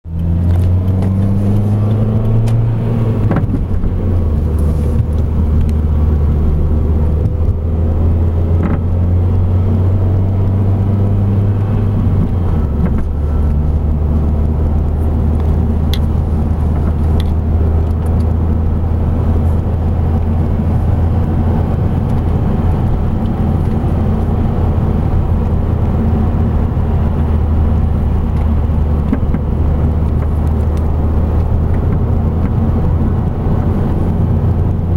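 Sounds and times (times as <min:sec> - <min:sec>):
car engine droning: 0:00.1 - 0:34.9.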